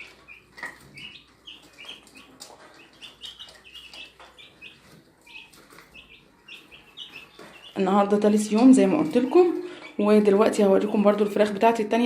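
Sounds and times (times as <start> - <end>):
chicks peeping: 0.0 - 11.6.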